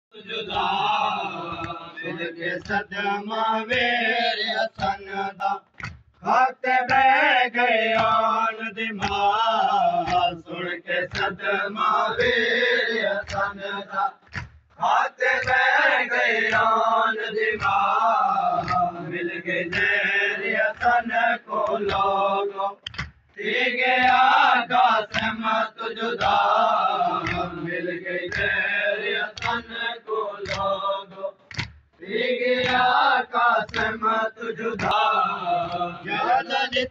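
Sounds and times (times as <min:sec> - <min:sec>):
men chanting a lament: 0:00.1 - 0:36.9.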